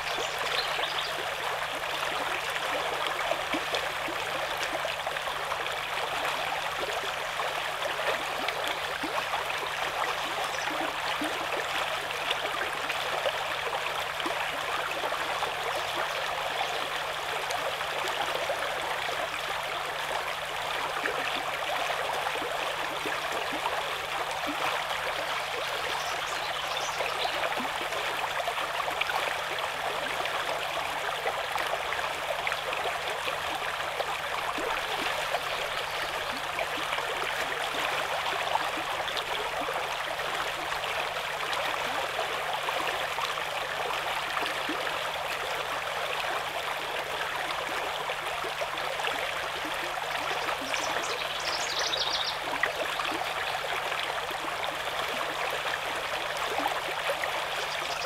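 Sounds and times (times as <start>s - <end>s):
brook babbling over rocks: 0.0s - 58.0s.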